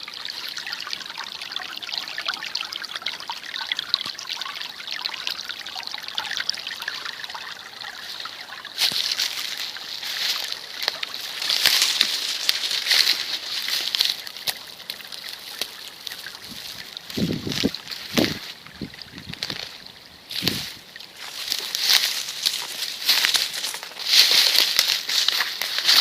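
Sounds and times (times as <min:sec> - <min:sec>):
stream trickling and babbling: 0:00.0 - 0:26.0.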